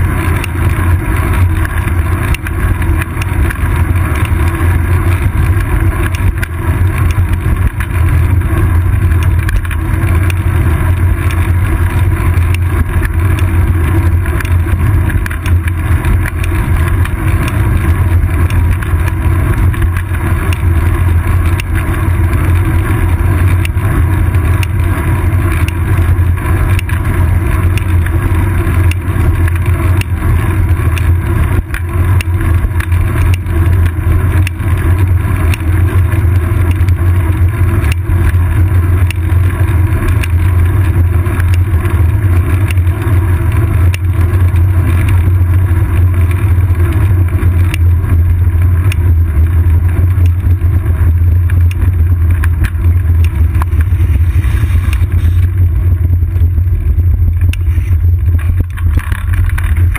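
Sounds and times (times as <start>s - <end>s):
bicycle road vibration: 0.0s - 59.9s
wind rumble: 0.0s - 59.9s.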